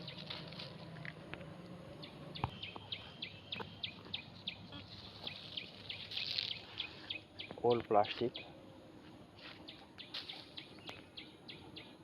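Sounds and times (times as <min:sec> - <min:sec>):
bird chirping: 0:00.0 - 0:00.6, 0:02.0 - 0:08.6, 0:09.6 - 0:12.0.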